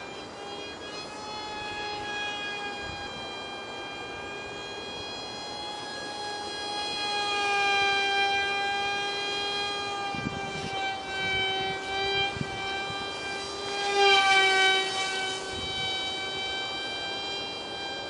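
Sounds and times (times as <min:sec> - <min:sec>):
small propeller motor whine: 0:00.0 - 0:18.0.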